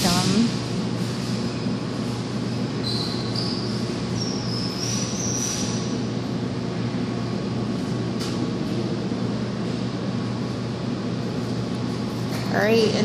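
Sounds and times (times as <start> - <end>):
arcade background hum: 0.0 - 13.0.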